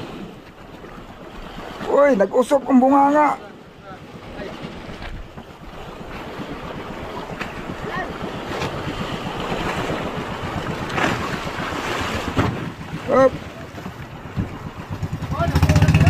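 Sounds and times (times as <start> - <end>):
sea water washing: 0.0 - 16.0
wind buffeting microphone: 0.0 - 16.0.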